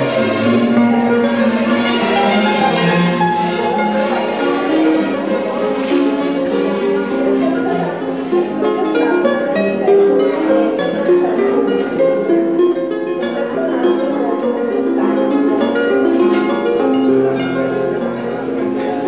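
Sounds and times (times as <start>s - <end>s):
plucked string melody: 0.0s - 19.0s.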